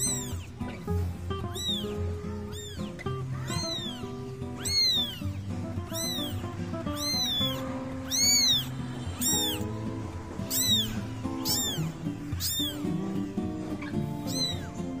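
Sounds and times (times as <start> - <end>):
kitten meowing high-pitched: 0.0 - 0.5, 1.4 - 9.7, 10.4 - 13.0, 13.8 - 15.0
background music: 0.0 - 15.0.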